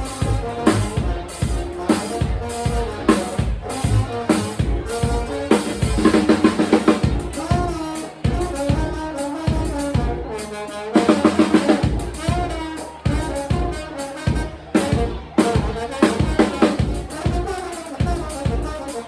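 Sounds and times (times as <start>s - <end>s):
drum kit beat: 0.0s - 19.0s.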